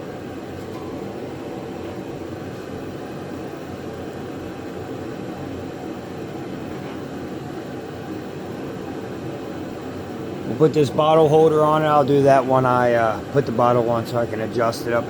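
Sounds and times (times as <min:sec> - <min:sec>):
machine low rumble: 0:00.0 - 0:15.0.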